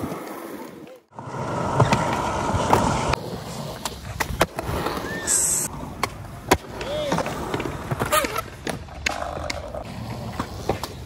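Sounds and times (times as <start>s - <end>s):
skateboard popping and landing: 0.0s - 11.0s
skateboard wheels rolling on concrete: 0.0s - 11.0s.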